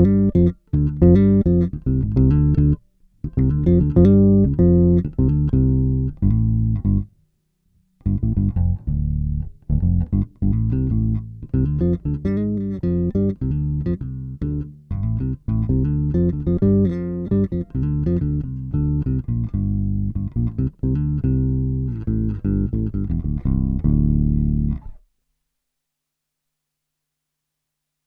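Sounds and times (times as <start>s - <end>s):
electric bass plucked notes: 0.0s - 7.1s, 8.0s - 25.0s.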